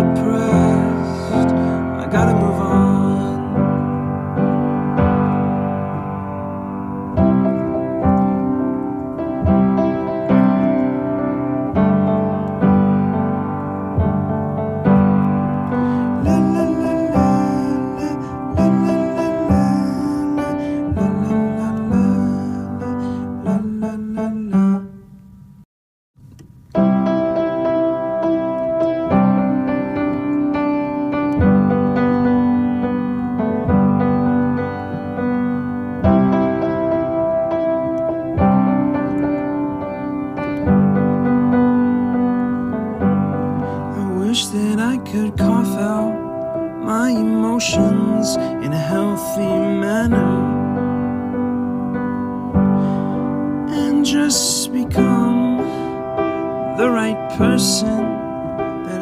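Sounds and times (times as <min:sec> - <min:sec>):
piano chords: 0:00.0 - 0:25.6, 0:26.2 - 0:59.0.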